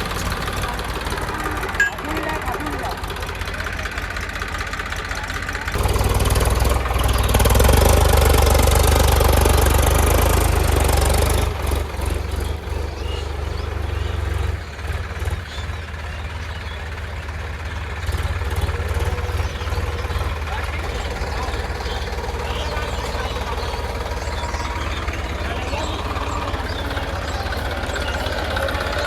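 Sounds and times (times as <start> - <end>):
backhoe diesel engine running: 0.0 - 29.0.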